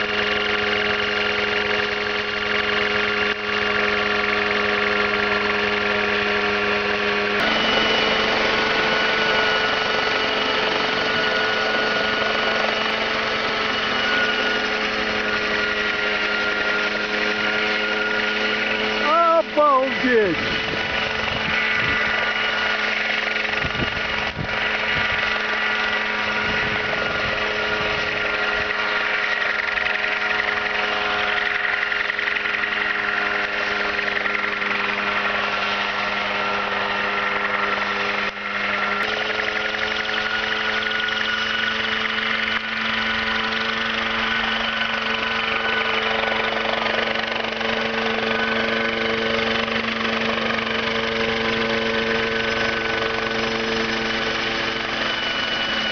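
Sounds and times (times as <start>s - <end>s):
helicopter engine droning: 0.0s - 55.9s.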